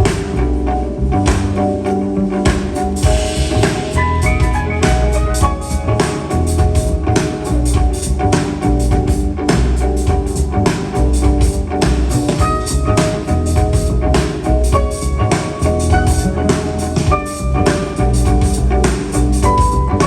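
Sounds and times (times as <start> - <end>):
busy drum kit: 0.0 - 0.5, 1.2 - 20.0
low bass notes: 0.0 - 20.0
piano: 0.0 - 20.0.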